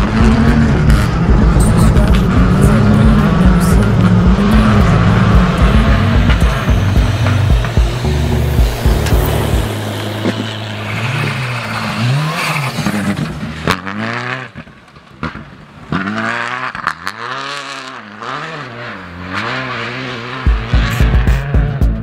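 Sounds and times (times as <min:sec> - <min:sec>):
sharp exhaust cracks: 0:00.0 - 0:18.2
rally car engine revving: 0:00.0 - 0:22.0.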